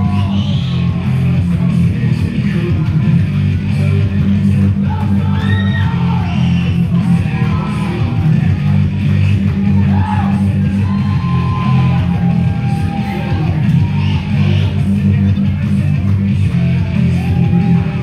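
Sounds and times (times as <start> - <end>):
loud rock music over pa: 0.0 - 18.0.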